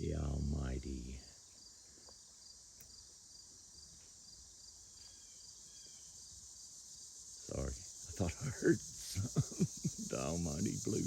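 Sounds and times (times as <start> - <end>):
faint crickets chirping: 0.0 - 11.0
high insect hiss: 0.0 - 11.0.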